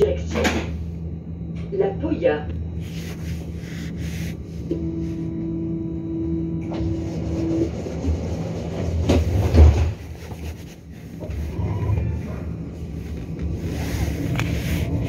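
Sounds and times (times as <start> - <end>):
tram equipment humming: 0.0 - 15.0.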